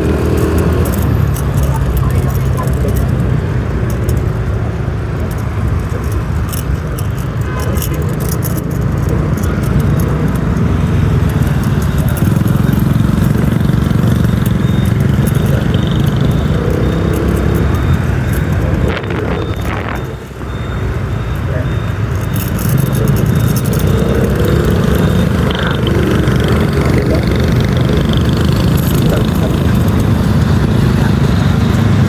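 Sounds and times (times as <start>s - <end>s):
motorbike engine rumble: 0.0s - 32.0s
surrounding traffic: 0.0s - 32.0s.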